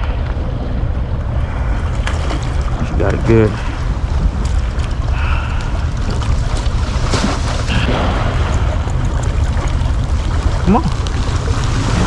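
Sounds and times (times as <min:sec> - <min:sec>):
wind buffeting microphone: 0:00.0 - 0:12.0
waves splashing against rocks: 0:01.8 - 0:12.0.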